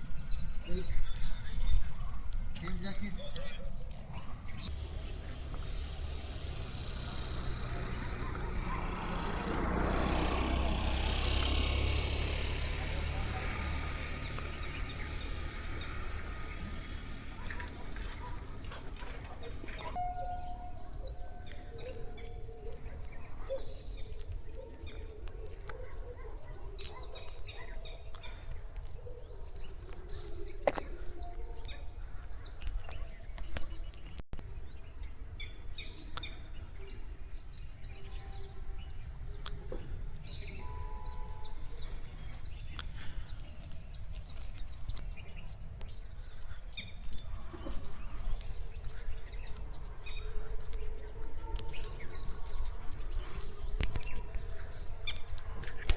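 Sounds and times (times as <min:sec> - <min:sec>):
low rumble of wind: 0:00.0 - 0:55.9
small birds chirping: 0:00.0 - 0:55.9.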